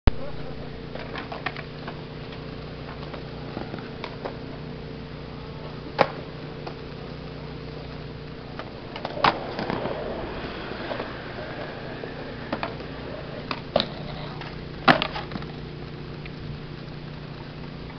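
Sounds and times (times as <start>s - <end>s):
steady low hum: 0.1s - 17.9s
skateboard cracking on concrete: 0.8s - 4.8s, 5.6s - 16.9s
skateboard rattle: 0.8s - 5.0s, 5.6s - 17.9s.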